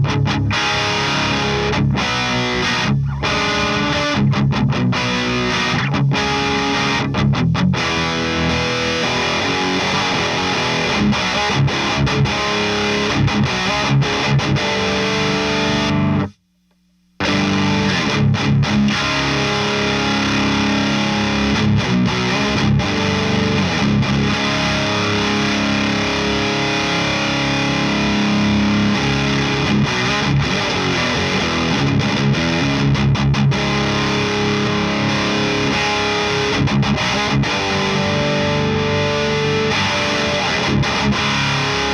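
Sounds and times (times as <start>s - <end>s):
distorted electric guitar riffs: 0.0s - 41.9s.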